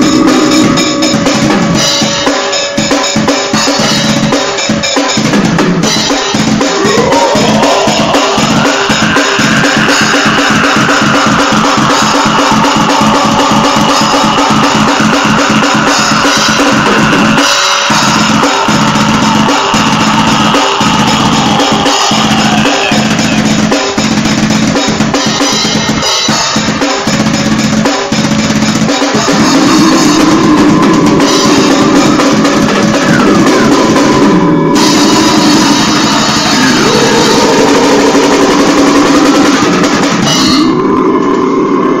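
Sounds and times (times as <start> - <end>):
acoustic drum kit played fast: 0.0 - 40.8.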